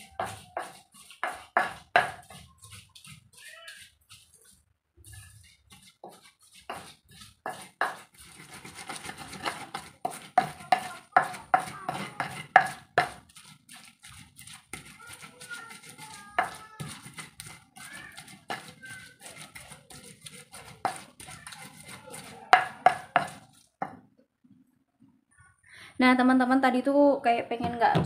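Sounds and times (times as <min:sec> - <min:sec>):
stone pestle grinding in mortar: 0:00.0 - 0:24.0.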